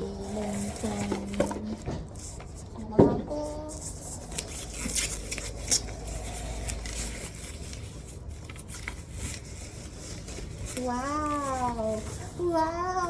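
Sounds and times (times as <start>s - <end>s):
packaging rustling and scraping: 0.0s - 13.0s.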